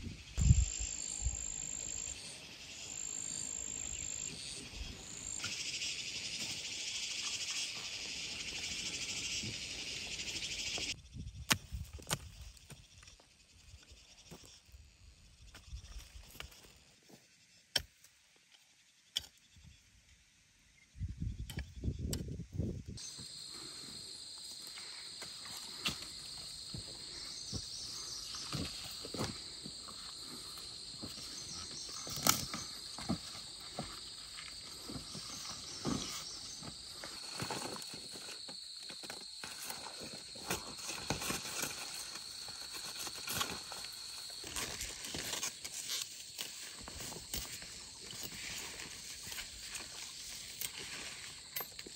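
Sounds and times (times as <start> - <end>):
insects buzzing: 0.0 - 51.9.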